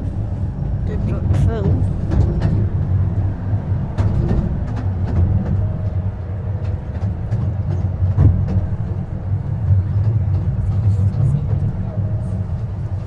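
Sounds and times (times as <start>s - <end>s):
miniature train rumbling on track: 0.0s - 13.0s
carriages clicking and knocking: 0.8s - 13.0s.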